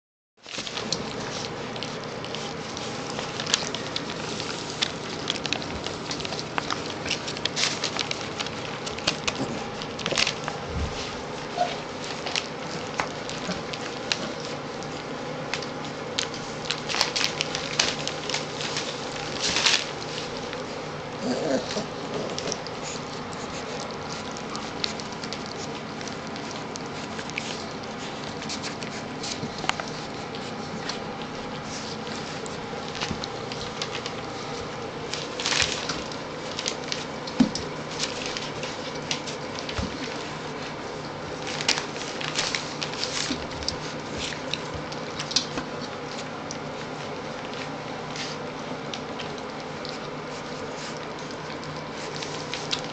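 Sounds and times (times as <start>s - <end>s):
puppies lapping and smacking: 0.4s - 52.9s.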